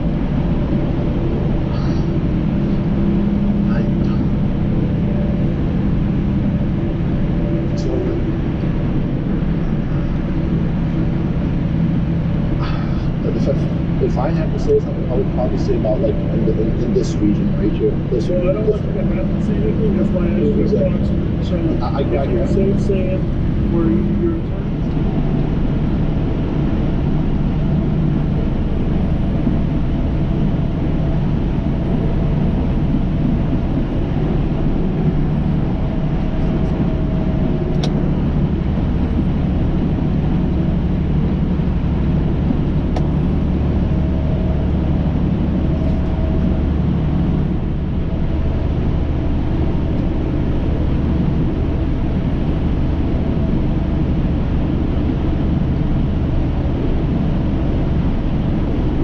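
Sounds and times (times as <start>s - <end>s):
truck engine and road drone: 0.0s - 59.0s.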